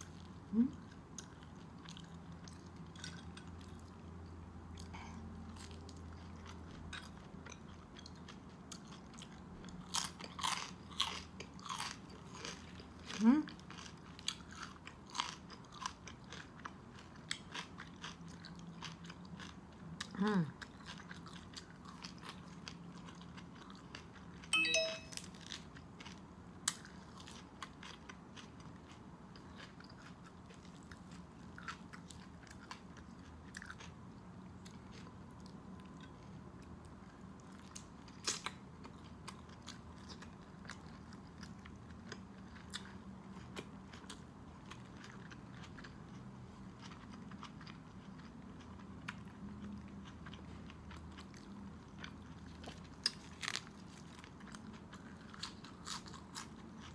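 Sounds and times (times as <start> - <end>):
person chewing crisp meat: 0.0 - 24.5, 25.3 - 56.9.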